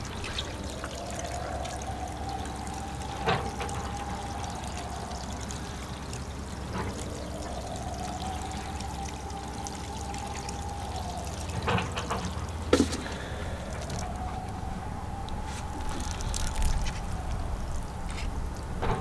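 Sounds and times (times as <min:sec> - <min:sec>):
water pouring from watering can: 0:00.0 - 0:19.0.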